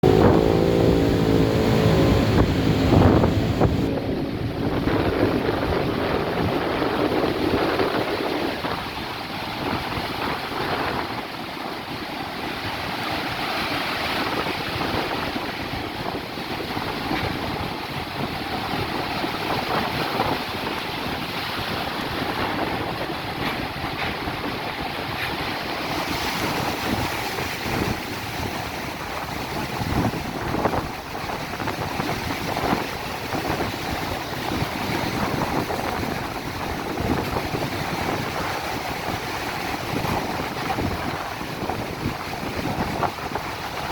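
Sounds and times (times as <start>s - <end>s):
heavy surf breaking: 0.0s - 43.9s
wind buffeting microphone: 0.0s - 43.9s.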